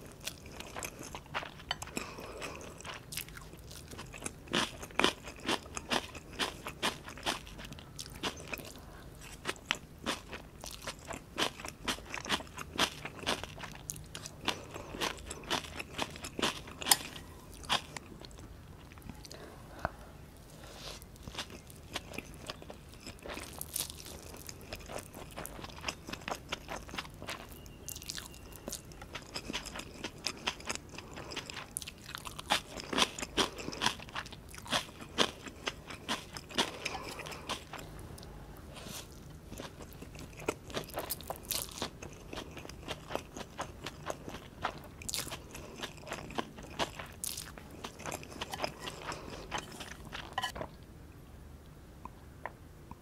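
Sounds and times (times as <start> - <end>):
chewing noodles: 0.0 - 19.4, 20.7 - 50.7.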